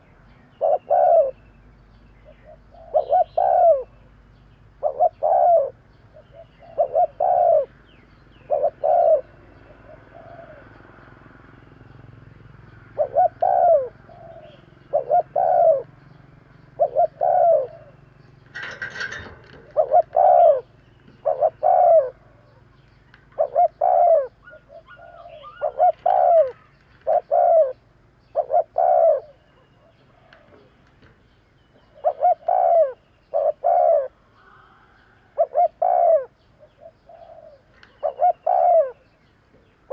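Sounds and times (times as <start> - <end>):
dove cooing: 0.0 - 1.4, 2.2 - 4.0, 4.8 - 10.8, 12.9 - 30.8, 31.7 - 39.2.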